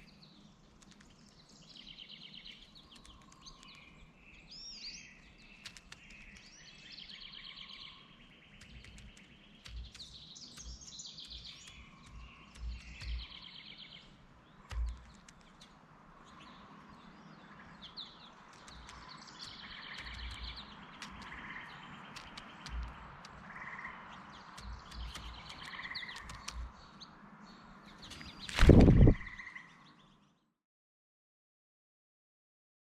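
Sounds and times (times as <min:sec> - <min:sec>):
background hiss: 0:00.0 - 0:28.8
birds trilling: 0:00.8 - 0:29.7.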